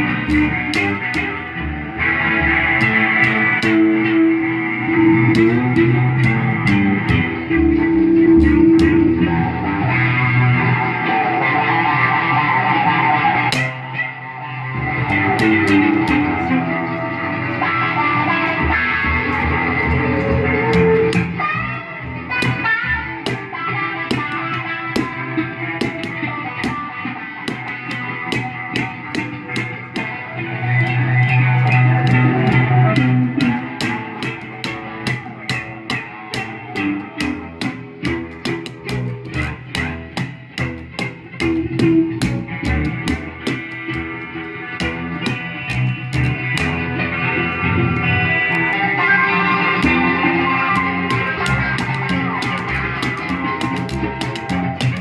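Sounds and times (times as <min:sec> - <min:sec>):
bass line: 0:00.0 - 0:55.0
guitar: 0:00.0 - 0:55.0
rock music: 0:00.0 - 0:55.0.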